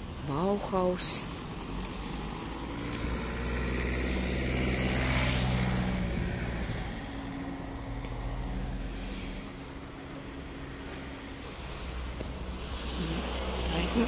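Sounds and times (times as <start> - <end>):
car engine hum passing: 1.3 - 14.0.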